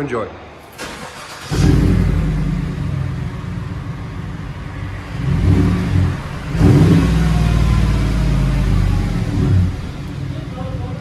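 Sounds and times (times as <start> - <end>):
engine exhaust idling and revving: 1.4 - 11.0.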